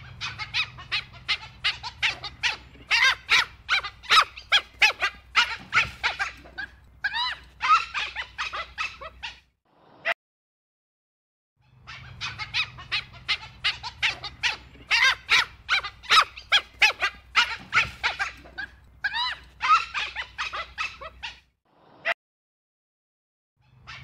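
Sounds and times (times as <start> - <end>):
wild dog squeaking calls: 0.0 - 9.5, 11.6 - 21.5, 23.6 - 24.0.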